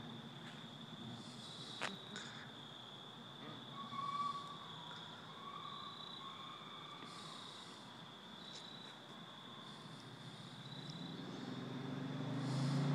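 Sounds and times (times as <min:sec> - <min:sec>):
insects chirring: 0:00.0 - 0:12.9.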